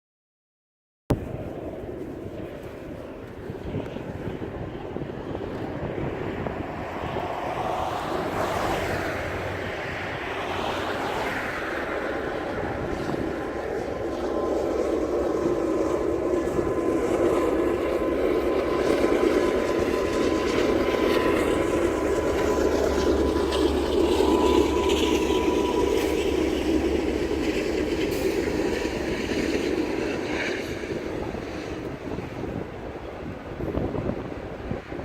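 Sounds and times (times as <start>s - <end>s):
train wheels rumbling on rails: 1.1s - 35.0s.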